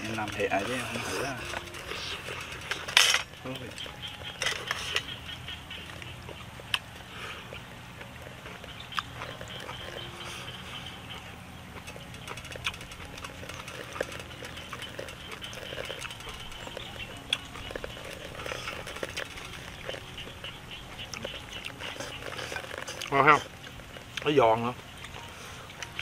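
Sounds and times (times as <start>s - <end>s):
chewing and slurping: 0.0s - 26.0s.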